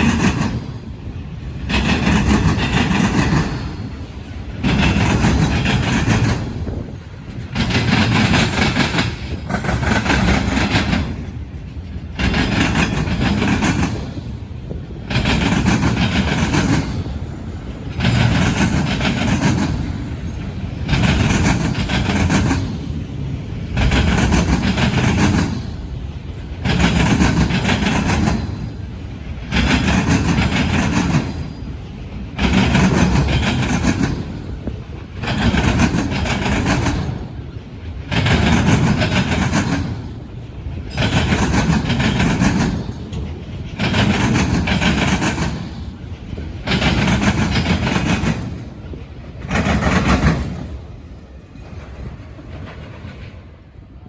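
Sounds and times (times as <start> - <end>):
train wheels pounding rail crossing: 0.0 - 54.0.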